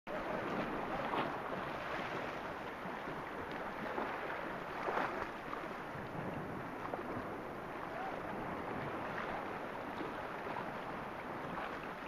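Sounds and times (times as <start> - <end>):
water lapping around boat: 0.1 - 12.0
wind buffeting microphone: 0.2 - 12.0.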